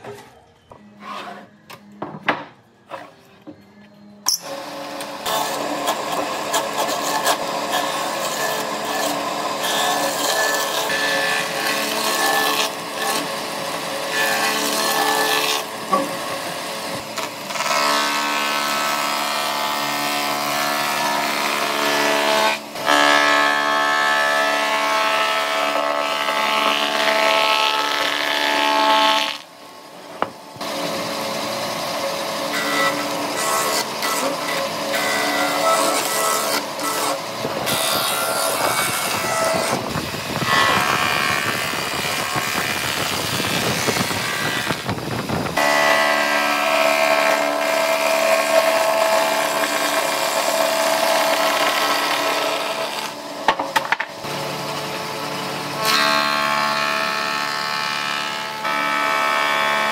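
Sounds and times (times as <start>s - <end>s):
power tool whining: 3.6s - 59.9s.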